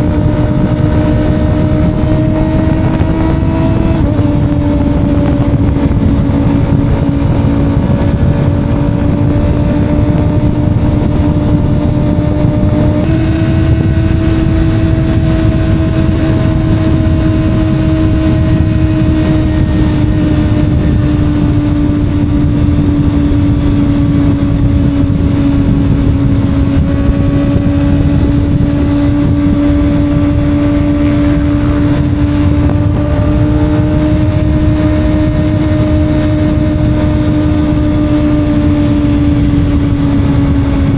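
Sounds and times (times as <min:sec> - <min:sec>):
motorcycle engine high-revving: 0:00.0 - 0:40.9
road rumble: 0:00.0 - 0:40.9
wind: 0:00.0 - 0:40.9.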